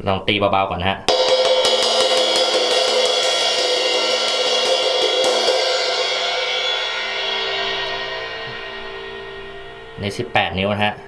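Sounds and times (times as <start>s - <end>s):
cymbal tapped with drumstick: 1.1s - 10.3s.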